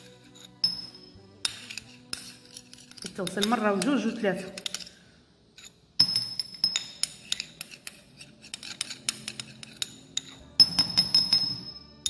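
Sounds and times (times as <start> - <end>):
metal spoon scraping dish and jar: 0.0 - 12.0.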